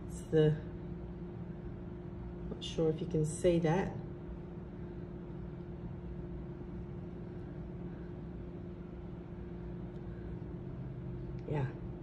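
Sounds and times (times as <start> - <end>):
faint constant tone: 0.0 - 12.0
low background hum: 0.0 - 12.0.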